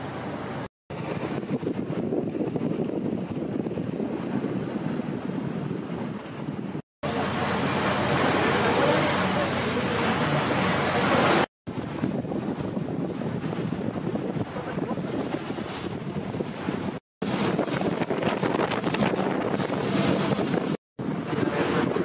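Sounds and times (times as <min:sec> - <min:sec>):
hissy wind rush: 0:00.0 - 0:22.0
wind and sea rush: 0:00.0 - 0:22.0.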